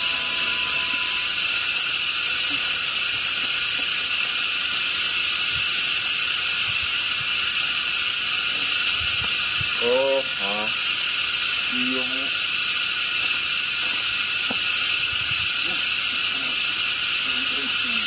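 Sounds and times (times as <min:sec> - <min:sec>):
forest insects droning: 0:00.0 - 0:18.0.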